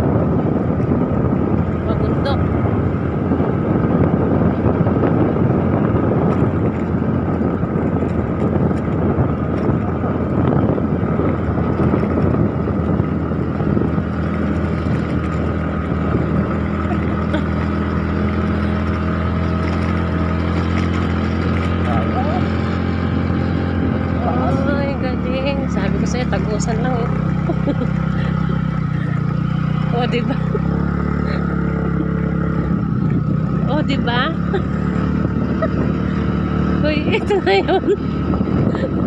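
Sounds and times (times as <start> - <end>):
motorbike engine running: 0.0 - 39.0
wind buffeting microphone: 0.0 - 39.0.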